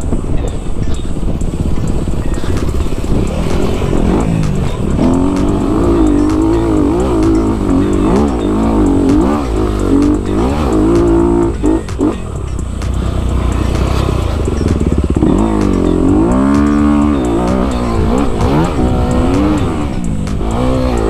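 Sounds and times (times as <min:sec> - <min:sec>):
dirt bike engine revving: 0:00.9 - 0:21.0.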